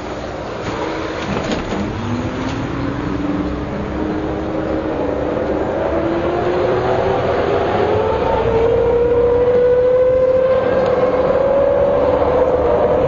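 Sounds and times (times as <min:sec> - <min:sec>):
diesel bus engine running: 0:00.0 - 0:13.0
differential whine rising: 0:00.6 - 0:13.0.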